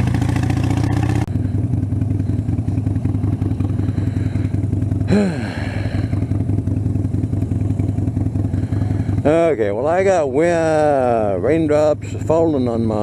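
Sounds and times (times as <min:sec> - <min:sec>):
motorcycle engine throbbing: 0:00.0 - 0:13.0.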